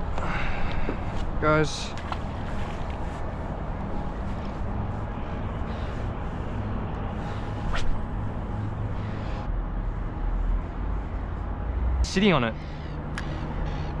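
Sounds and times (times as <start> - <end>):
traffic with low rumble: 0.0 - 14.0.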